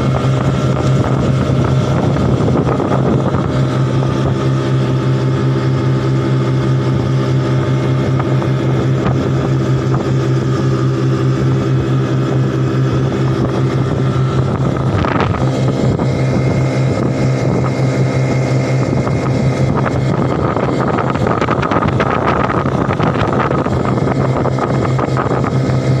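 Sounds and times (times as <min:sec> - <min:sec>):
outboard motors droning: 0:00.0 - 0:26.0
water rushing from hull and wake: 0:00.0 - 0:26.0.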